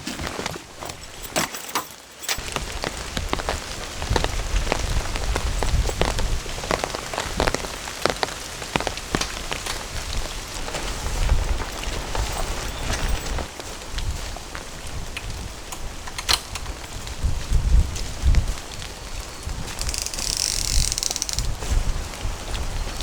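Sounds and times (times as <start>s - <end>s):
raindrops striking a surface: 2.4s - 23.0s.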